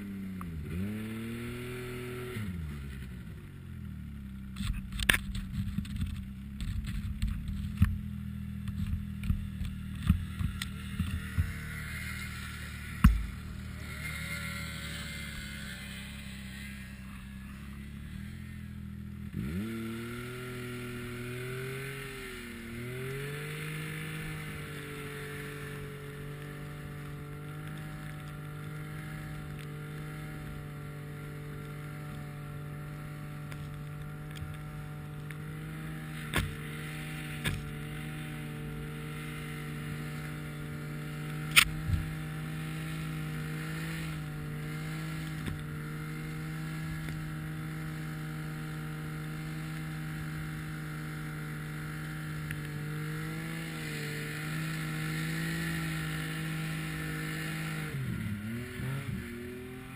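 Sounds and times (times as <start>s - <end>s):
snowmobile engine revving: 0.0s - 3.4s, 8.5s - 59.9s.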